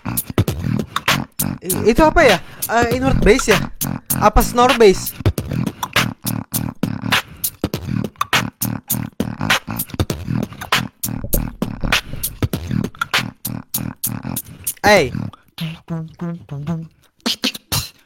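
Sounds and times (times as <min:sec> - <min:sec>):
beatboxing mouth hits: 0:00.0 - 0:18.0
low bass mouth sound: 0:00.0 - 0:18.0.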